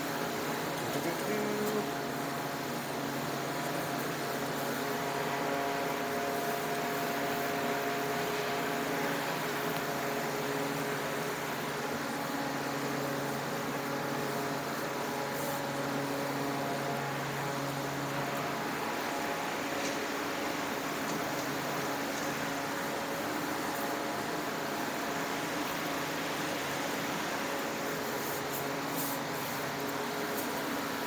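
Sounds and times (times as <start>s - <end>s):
machine humming and whirring: 0.0s - 31.0s.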